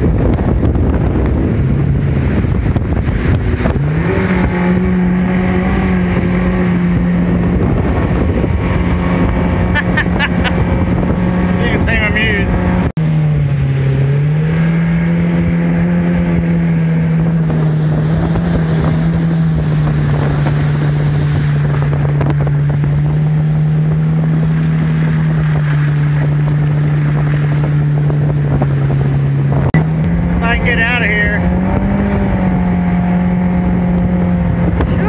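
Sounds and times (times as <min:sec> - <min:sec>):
outboard jet motor droning: 0:00.0 - 0:35.0
rushing water: 0:00.0 - 0:35.0
wind noise: 0:00.0 - 0:35.0.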